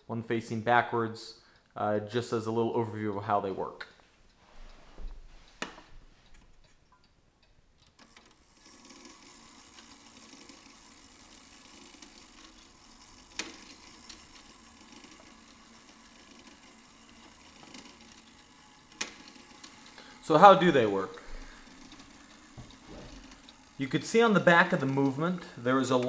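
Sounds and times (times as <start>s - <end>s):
clock movement running: 4.6s - 26.0s.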